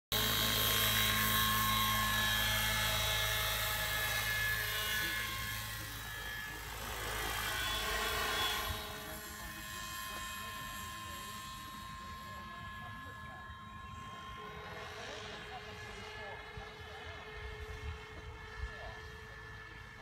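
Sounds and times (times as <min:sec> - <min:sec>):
model helicopter motor and rotor: 0:00.1 - 0:20.0.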